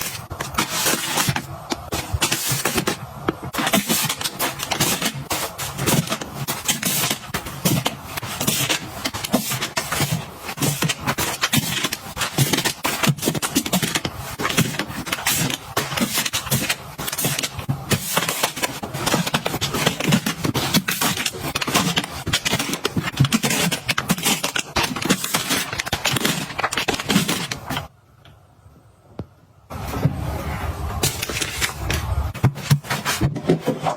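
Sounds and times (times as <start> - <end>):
packages handled and rustled: 0.0 - 27.9, 30.8 - 33.9.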